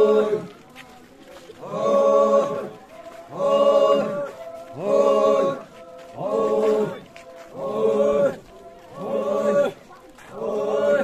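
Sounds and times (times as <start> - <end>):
men chanting in unison: 0.0 - 11.0.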